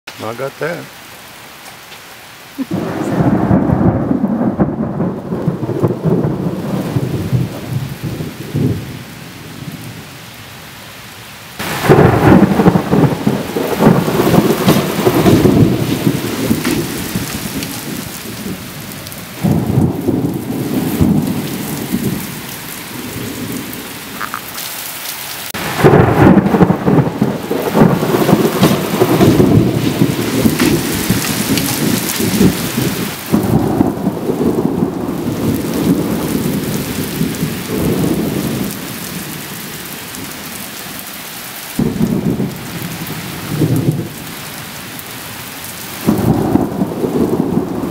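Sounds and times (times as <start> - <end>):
rain hissing: 0.1 - 47.9
thunder rumbling: 2.6 - 10.2, 11.6 - 24.3, 25.5 - 40.6, 41.8 - 47.9.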